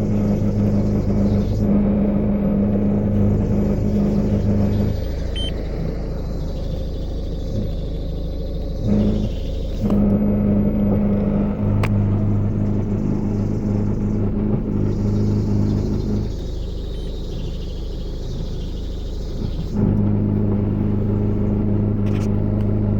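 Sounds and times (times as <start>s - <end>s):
diesel engine running: 0.0s - 22.9s
steady low drone: 0.0s - 22.9s.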